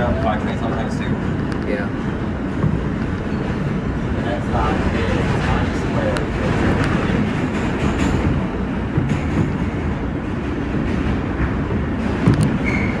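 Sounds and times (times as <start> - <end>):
subway wheels rumbling on track: 0.0 - 13.0.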